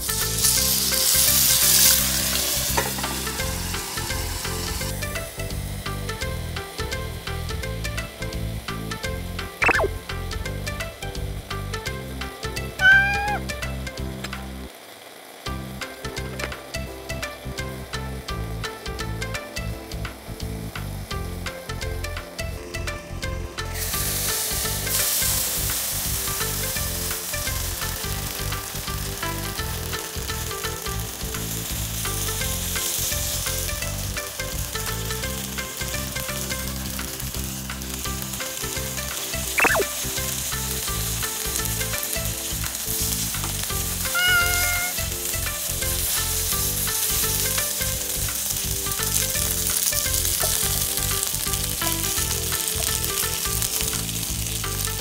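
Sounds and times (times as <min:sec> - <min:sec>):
dumplings sizzling in oil: 0:00.0 - 0:55.0.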